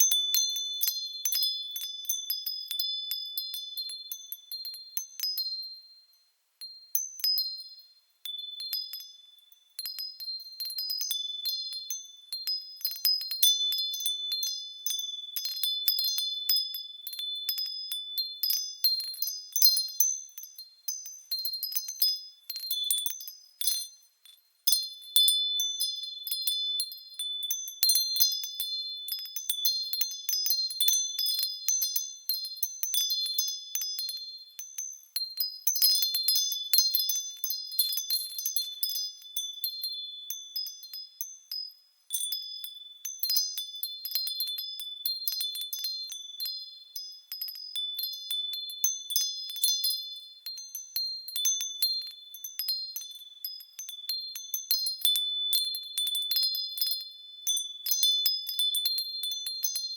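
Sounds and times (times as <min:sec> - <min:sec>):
wind chime ringing: 0:08.3 - 0:59.9.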